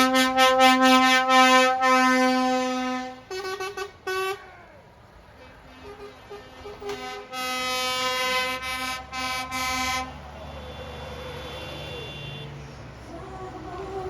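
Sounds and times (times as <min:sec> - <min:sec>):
vehicle horn: 0:00.0 - 0:04.5, 0:05.7 - 0:12.6
low rumble of engines: 0:00.0 - 0:14.0.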